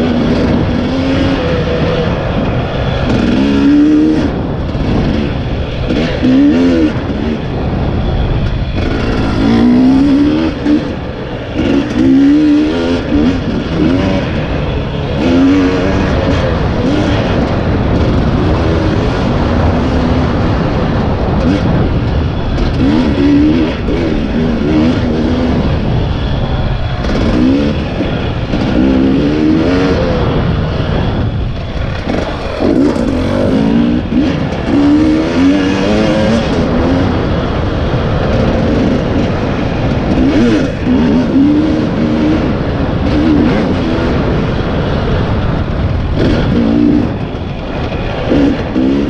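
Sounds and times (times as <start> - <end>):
dirt bike engine revving: 0.0 - 49.0
steady rushing noise: 0.0 - 49.0.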